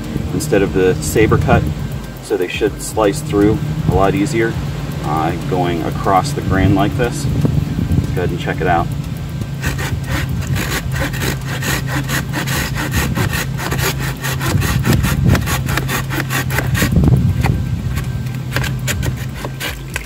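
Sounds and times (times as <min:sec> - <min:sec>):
hand saw cutting wood: 0:00.0 - 0:07.3, 0:09.6 - 0:20.0
steady low hum: 0:00.0 - 0:20.0.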